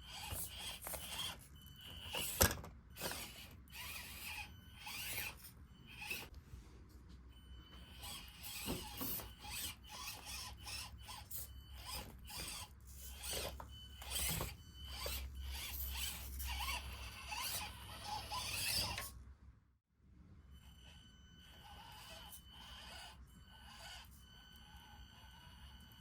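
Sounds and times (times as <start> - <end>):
small electric motor whining: 0.0 - 6.3, 7.3 - 19.2, 20.5 - 26.0.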